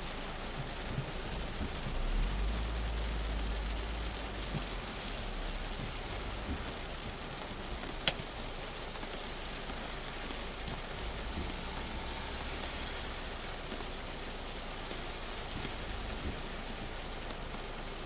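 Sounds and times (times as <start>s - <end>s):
heavy rain on car roof: 0.0s - 18.0s.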